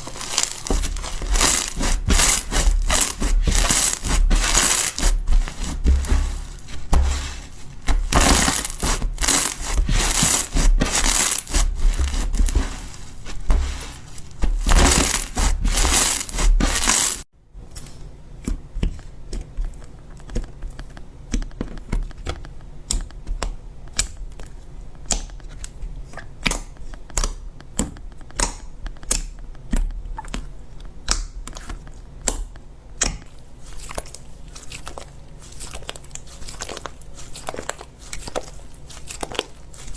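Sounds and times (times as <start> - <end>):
slime crunching and crackling: 0.0 - 17.3, 25.1 - 39.9.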